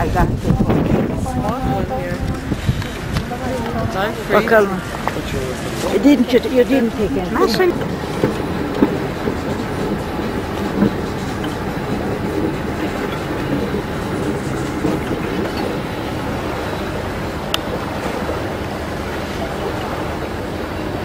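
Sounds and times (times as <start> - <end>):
vehicle mechanical rumble: 0.0 - 21.0.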